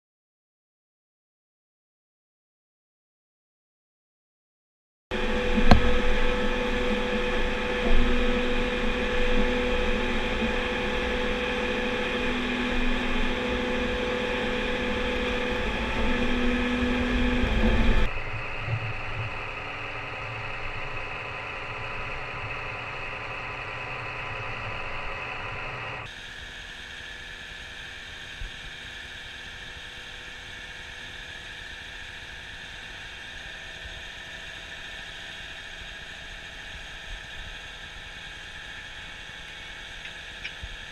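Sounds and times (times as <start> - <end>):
diesel engine and hydraulics: 5.1 - 40.9
machine whine: 5.1 - 40.9.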